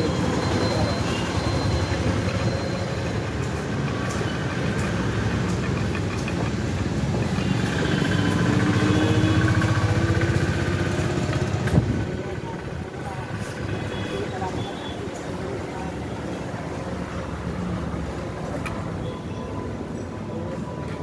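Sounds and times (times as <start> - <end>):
belt-drive engine pulsing: 0.0 - 19.0.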